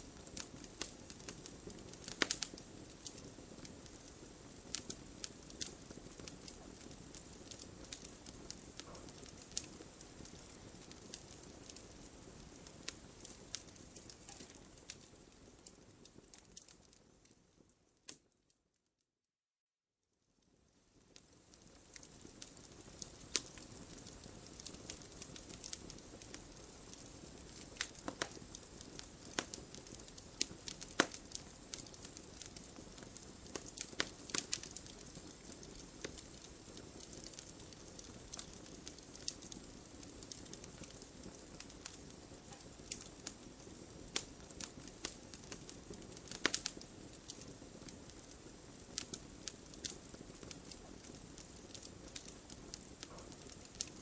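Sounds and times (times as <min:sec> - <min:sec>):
wood fire crackling: 0:00.0 - 0:18.5, 0:20.4 - 0:54.0.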